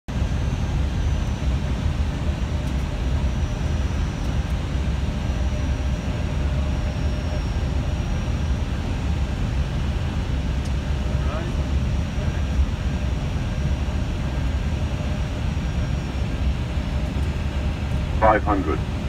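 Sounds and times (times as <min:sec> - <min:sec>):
cockpit airflow and engine rumble: 0:00.1 - 0:19.0.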